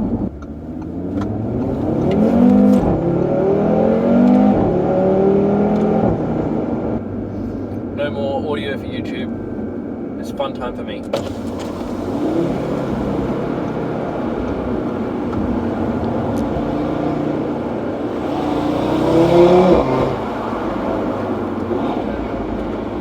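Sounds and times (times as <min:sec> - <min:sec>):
car engine accelerating hard: 0:00.0 - 0:08.0, 0:11.2 - 0:23.0
road noise: 0:00.0 - 0:23.0.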